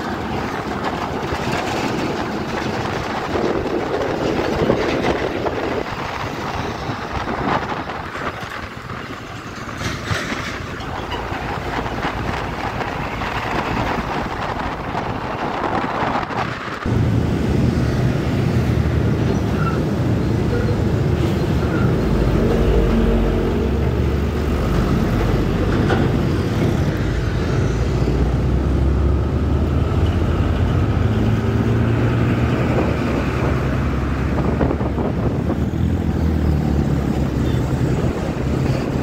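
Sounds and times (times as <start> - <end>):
deep engine rumble: 0.0 - 39.0
trucks passing: 0.0 - 39.0
wind and road noise: 0.0 - 39.0.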